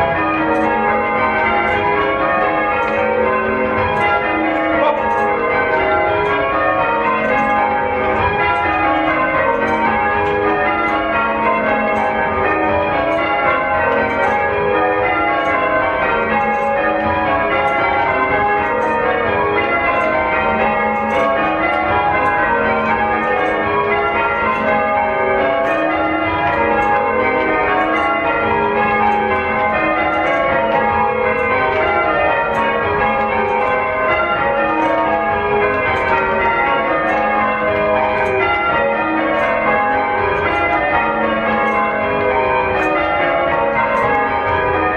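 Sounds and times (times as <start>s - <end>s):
church bells ringing: 0.0s - 44.9s.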